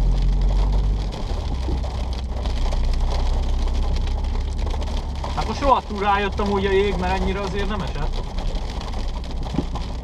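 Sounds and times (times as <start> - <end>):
car engine and tyres droning: 0.0 - 10.0
hail pelting a car roof: 0.0 - 10.0.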